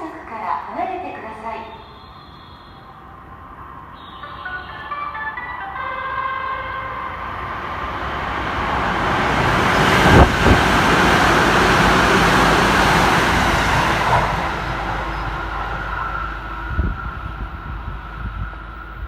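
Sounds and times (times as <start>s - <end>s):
train passing at speed: 0.0s - 19.0s.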